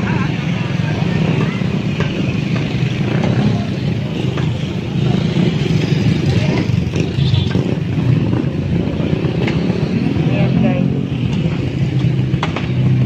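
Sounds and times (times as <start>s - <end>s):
motorcycle and traffic engines rumbling: 0.0s - 13.0s.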